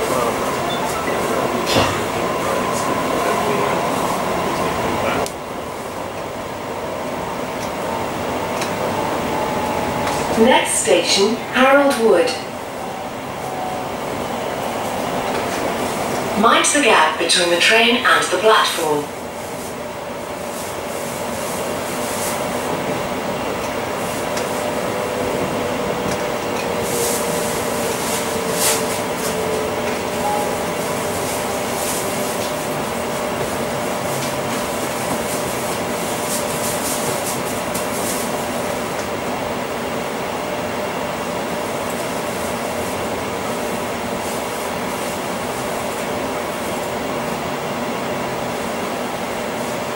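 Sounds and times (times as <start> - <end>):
electric train rumble and hum: 0.0 - 49.9.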